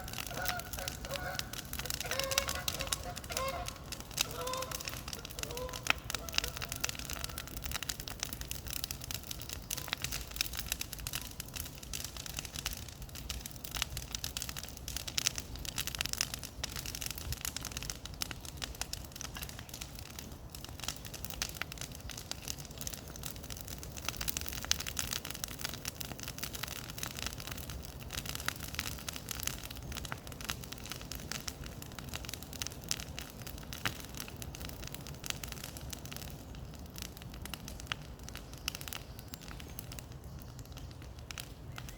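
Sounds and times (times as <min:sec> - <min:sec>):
bonfire crackling and popping: 0:00.0 - 0:41.9.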